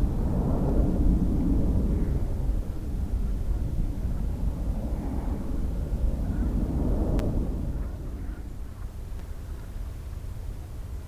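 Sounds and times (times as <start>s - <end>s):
distant jet aircraft rumble: 0.0s - 11.0s
wind buffeting microphone: 0.0s - 11.0s.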